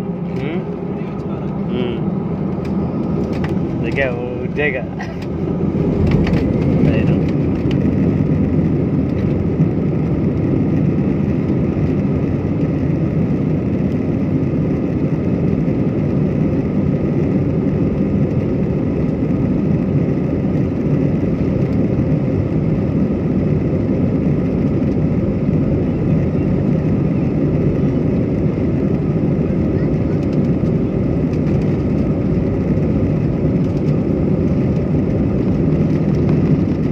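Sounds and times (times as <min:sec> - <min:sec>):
jet engines and rolling noise: 0:00.0 - 0:36.9.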